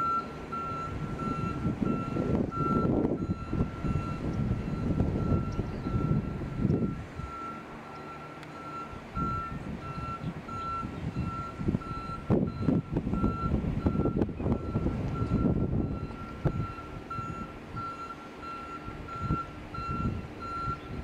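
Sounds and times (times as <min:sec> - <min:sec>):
truck backup alarm beeping: 0:00.0 - 0:21.0.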